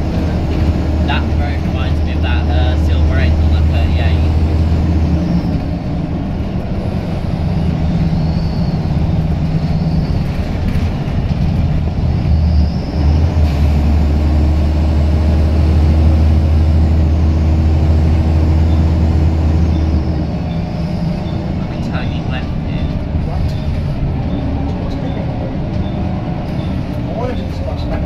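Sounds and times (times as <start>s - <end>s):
bus diesel engine working hard: 0.0s - 28.0s.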